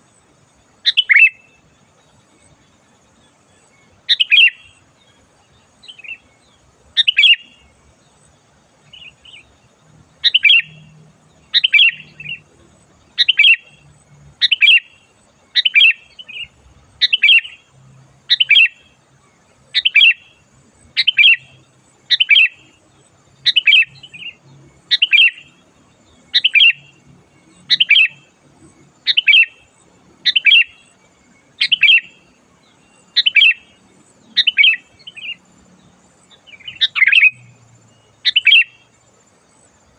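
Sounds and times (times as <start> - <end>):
bulbul whistled song: 0.0 - 2.6, 3.3 - 22.8, 23.4 - 35.5, 36.2 - 39.8.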